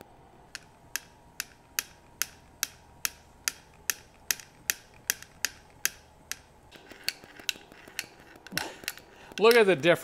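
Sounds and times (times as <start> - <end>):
wiper mechanism metallic clicks: 0.0 - 10.0.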